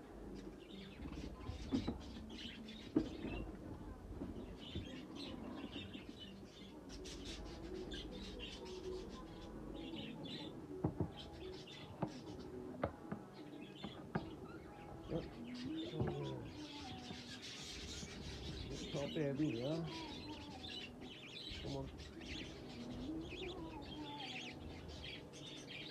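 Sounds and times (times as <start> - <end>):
budgerigars chirping and chattering: 0.1 - 25.9.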